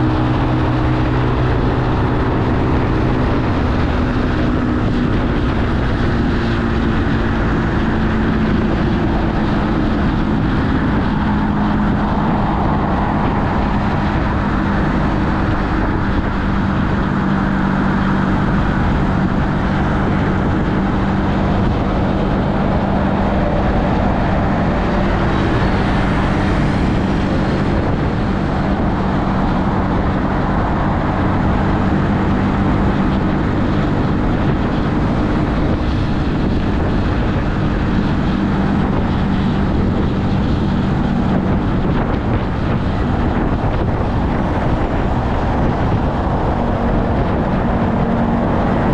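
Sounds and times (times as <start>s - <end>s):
motorcycle engine cruising: 0.0s - 48.9s
road noise: 0.0s - 48.9s
wind noise on microphone: 0.0s - 48.9s.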